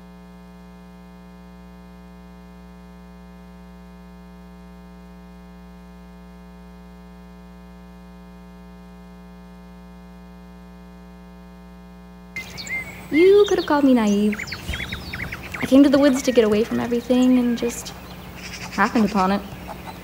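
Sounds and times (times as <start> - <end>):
buzzy electrical mains hum: 0.0 - 20.0.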